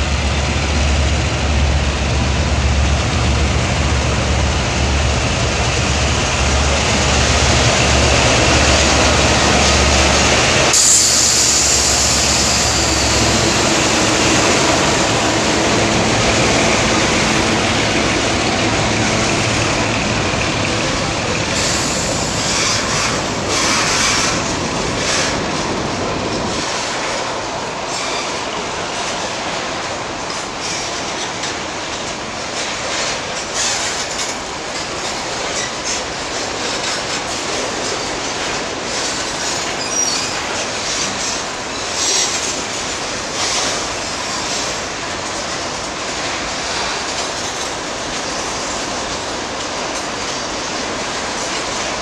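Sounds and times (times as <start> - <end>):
train wheels rumbling on rail: 0.0 - 52.0
wheels clacking over rail joints: 5.1 - 52.0.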